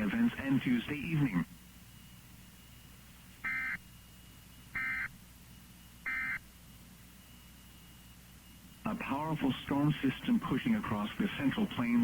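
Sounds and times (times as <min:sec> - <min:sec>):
radio receiver hum and whine: 0:00.0 - 0:12.0.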